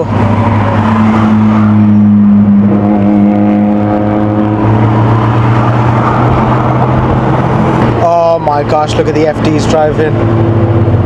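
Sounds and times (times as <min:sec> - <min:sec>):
car engine droning: 0:00.0 - 0:11.0
higher engine tones: 0:00.0 - 0:11.0.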